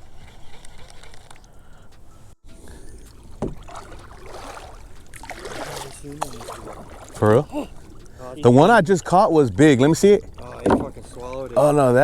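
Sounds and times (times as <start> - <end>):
water splashing against kayak: 0.0 - 12.0.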